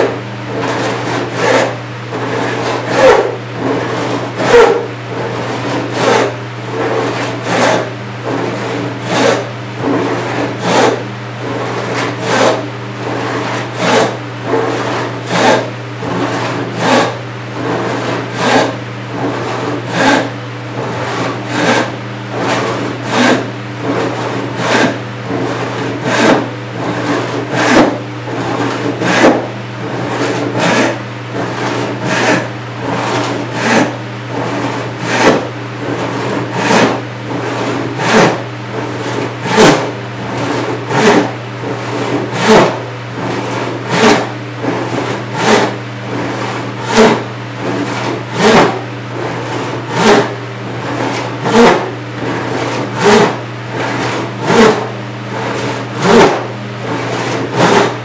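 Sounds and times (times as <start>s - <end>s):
hand saw rasping through wood: 0.0s - 58.0s.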